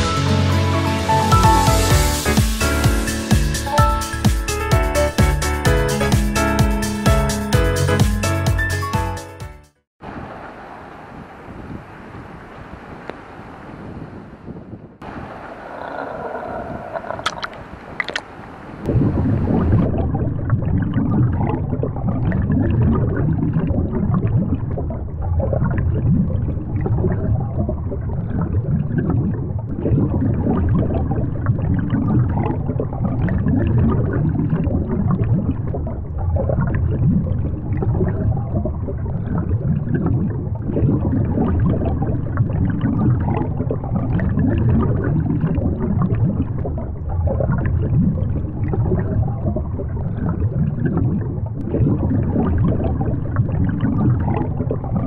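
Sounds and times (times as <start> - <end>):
muffled underwater rushing: 10.0 - 55.0.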